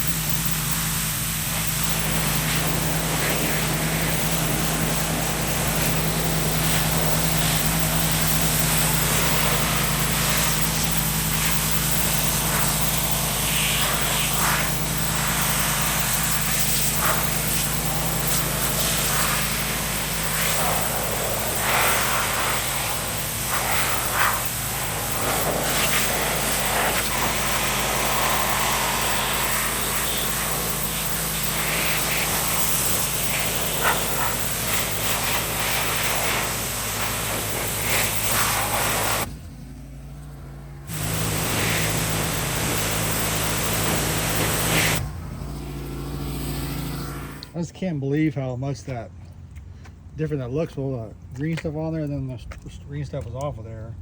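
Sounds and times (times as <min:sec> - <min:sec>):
pressure washer spray hissing: 0:00.0 - 0:39.3, 0:40.9 - 0:47.6
pressure washer motor hum: 0:00.0 - 0:47.8.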